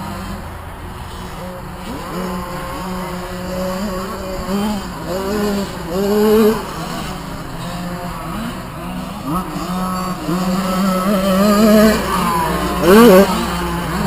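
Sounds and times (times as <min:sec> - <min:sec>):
mini motocross bikes racing: 0:00.0 - 0:14.0.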